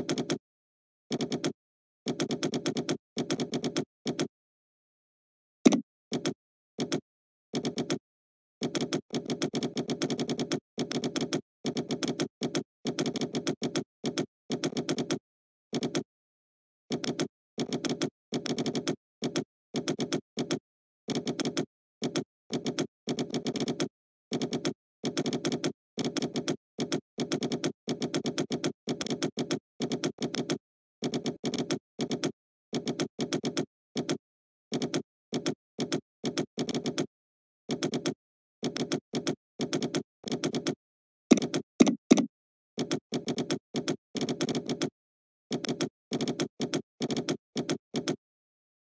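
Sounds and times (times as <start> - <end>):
keyboard typing clicks: 0.0 - 0.4, 1.1 - 4.3, 5.7 - 8.0, 8.6 - 16.1, 16.9 - 37.1, 37.7 - 48.2.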